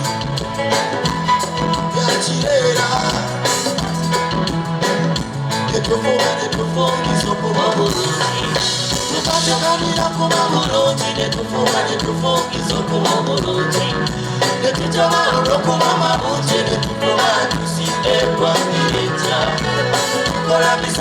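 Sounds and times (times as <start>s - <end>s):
band music with bass: 0.0s - 21.0s
person singing: 1.7s - 4.0s, 5.6s - 21.0s.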